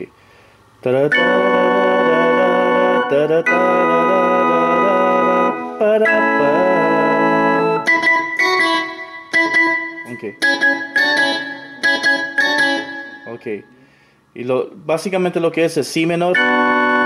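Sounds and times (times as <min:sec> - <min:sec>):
electronic organ chords: 0:00.8 - 0:14.1, 0:16.0 - 0:17.0.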